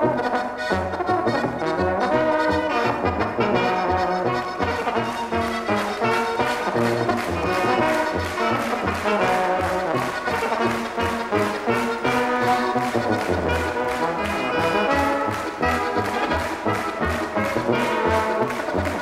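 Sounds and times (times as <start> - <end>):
accordion: 0.0 - 19.0
clarinet: 0.0 - 19.0
trumpets playing melody: 0.0 - 19.0
tuba bass notes: 0.0 - 19.0
audience clapping along: 0.1 - 19.0.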